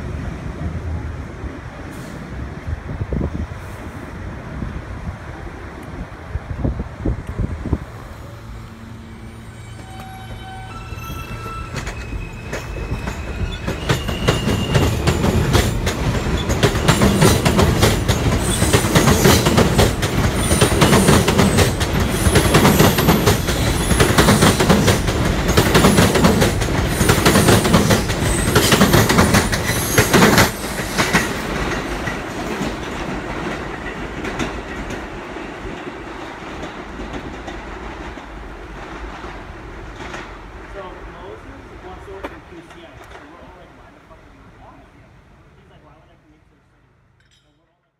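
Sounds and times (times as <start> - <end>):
subway train rumble: 0.0 - 47.2.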